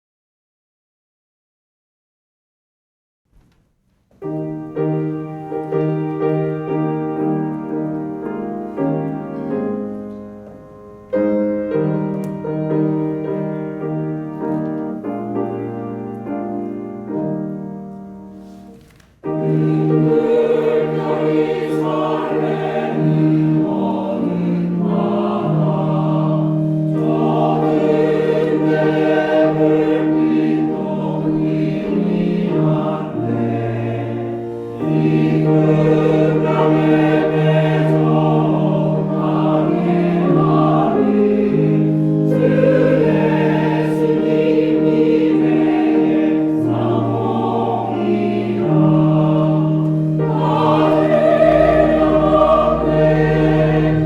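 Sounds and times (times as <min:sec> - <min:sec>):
piano and organ chords: 0:04.1 - 0:54.0
choir singing a hymn: 0:04.3 - 0:54.0.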